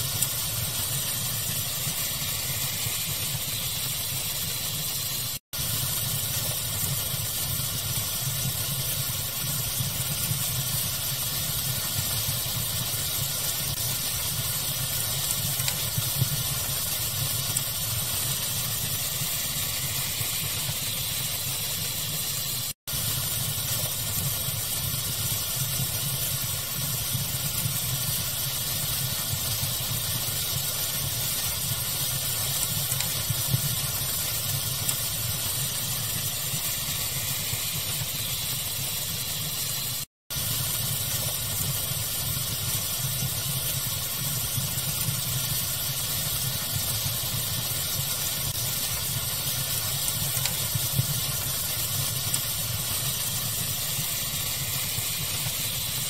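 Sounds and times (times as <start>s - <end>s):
fire crackling: 0.0s - 56.0s
pink noise hiss: 0.0s - 56.0s.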